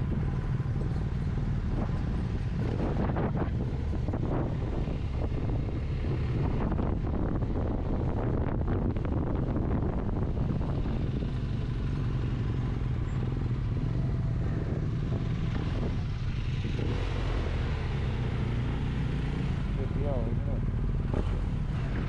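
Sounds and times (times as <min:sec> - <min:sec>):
motorcycle engine drone: 0:00.0 - 0:22.0
wind rushing over microphone: 0:00.0 - 0:22.0.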